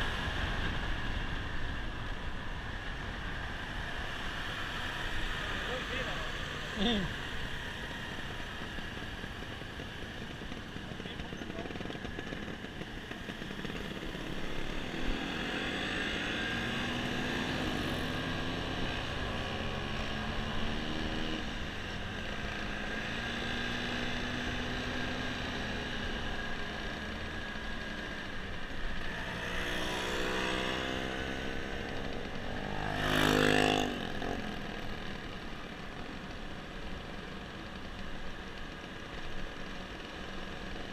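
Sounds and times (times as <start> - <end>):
motor scooter engines: 0.0 - 40.9.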